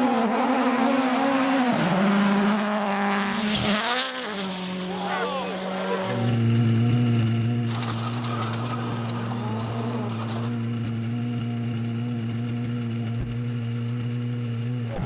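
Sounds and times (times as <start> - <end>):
rally car engine running: 0.0 - 15.0.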